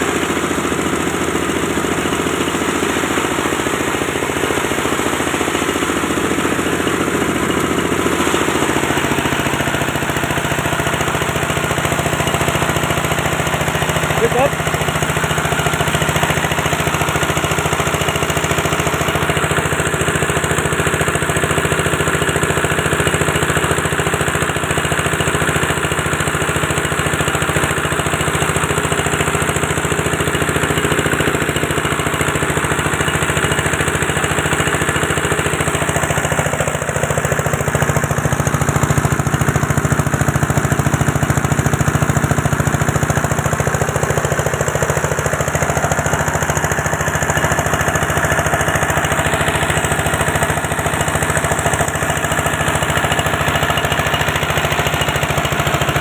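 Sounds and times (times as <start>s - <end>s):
diesel engine running loudly: 0.0s - 56.0s.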